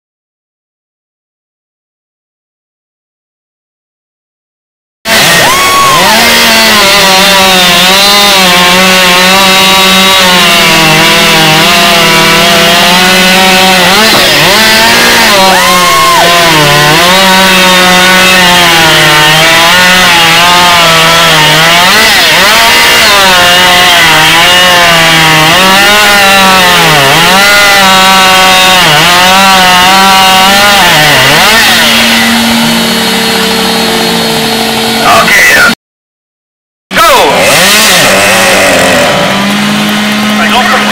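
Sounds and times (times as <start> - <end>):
chainsaw cutting wood: 5.1 - 35.8, 36.9 - 40.9.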